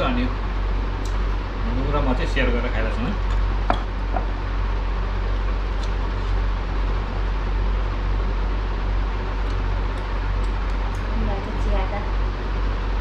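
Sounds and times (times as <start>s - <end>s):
electric fan whooshing: 0.0s - 13.0s.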